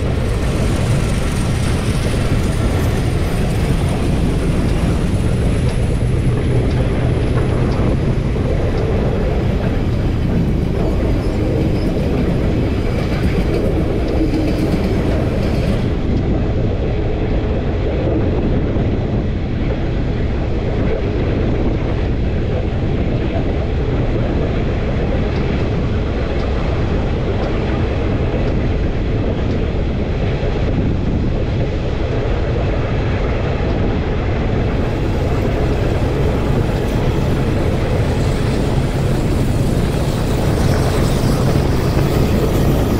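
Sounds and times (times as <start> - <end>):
train rumbling past: 0.0 - 42.9.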